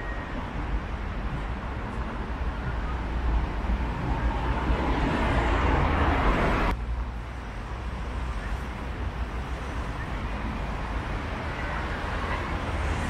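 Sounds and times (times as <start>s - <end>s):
traffic rumble: 0.0s - 13.0s
passing vehicle tyre noise: 0.6s - 13.0s.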